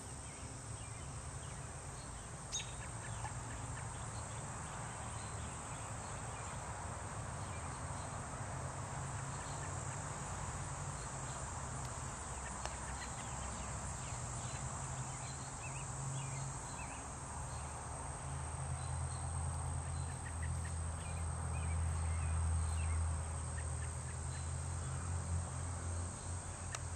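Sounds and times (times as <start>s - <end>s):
insect chorus drone: 0.0s - 26.9s.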